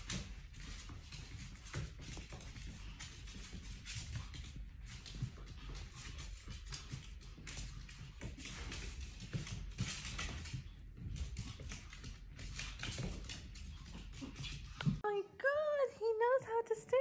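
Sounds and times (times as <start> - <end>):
paws tapping on wooden floor: 0.0 - 15.0
puppy rustling and scuffling: 0.0 - 15.0.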